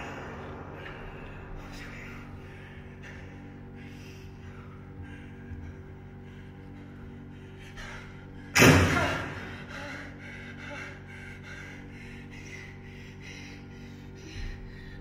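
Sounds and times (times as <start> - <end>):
rapid gasping breaths: 0.0 - 8.6, 9.3 - 15.0
steady low drone: 0.0 - 15.0.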